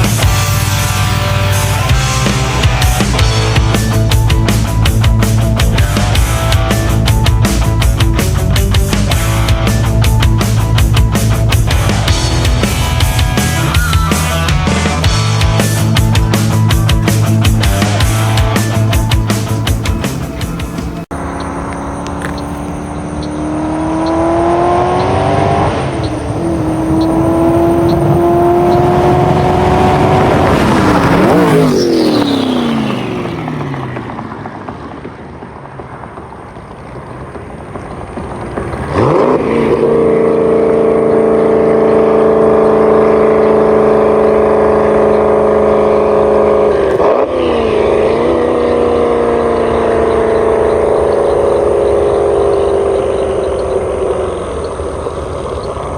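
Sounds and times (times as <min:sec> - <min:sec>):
car engine revving hard: 0:00.0 - 0:34.1, 0:38.6 - 0:55.9.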